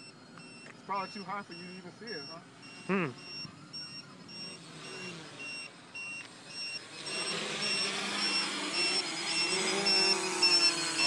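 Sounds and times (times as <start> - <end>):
drone propellers buzzing: 0.0 - 11.0
electronic beeps: 0.0 - 11.0.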